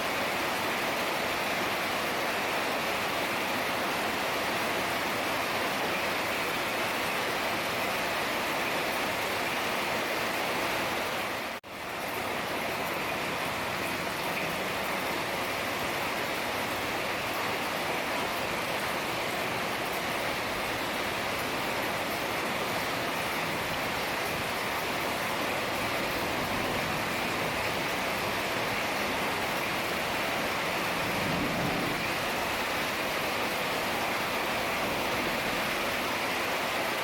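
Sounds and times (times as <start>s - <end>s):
heavy rain hissing: 0.0s - 37.0s.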